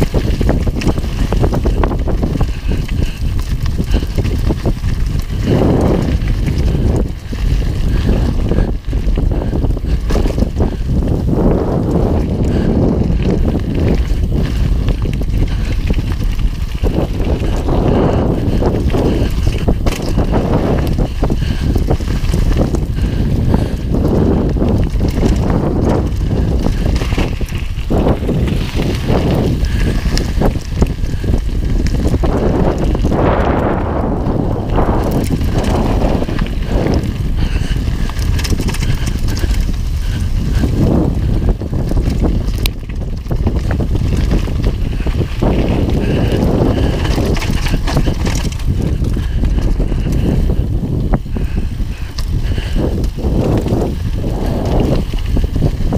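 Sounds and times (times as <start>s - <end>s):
bike clicks and rattles: 0.0s - 55.9s
tyres rolling over gravel: 0.0s - 55.9s
wind buffeting microphone: 0.0s - 55.9s.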